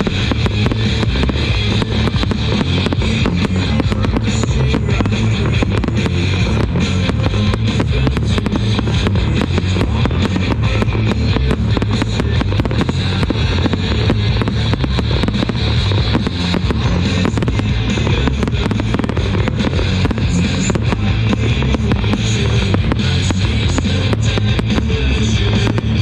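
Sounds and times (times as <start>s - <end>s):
fireworks bursting and crackling: 0.0s - 26.0s
loud music: 0.0s - 26.0s.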